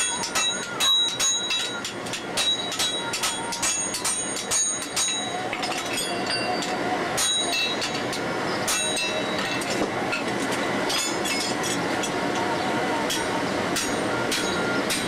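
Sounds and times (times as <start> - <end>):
hammer striking iron on anvil: 0.0 - 10.3, 10.9 - 12.1, 13.1 - 15.0.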